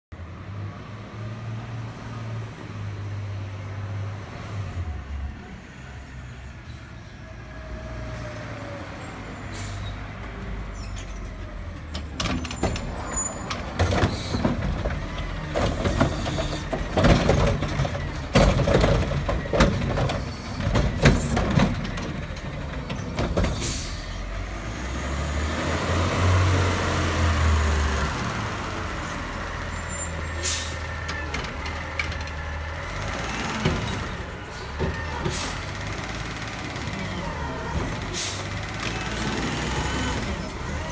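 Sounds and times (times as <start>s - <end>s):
garbage truck diesel engine: 0.2s - 40.9s.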